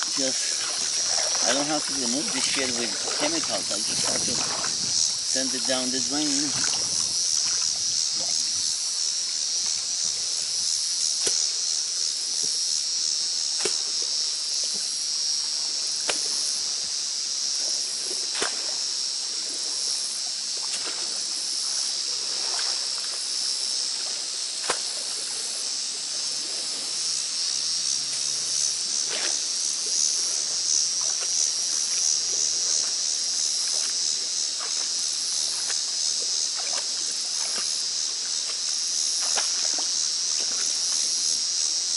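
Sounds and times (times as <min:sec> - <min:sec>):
raking in shallow water: 0:00.0 - 0:12.6, 0:17.5 - 0:41.9
insect chorus trilling: 0:00.0 - 0:41.9.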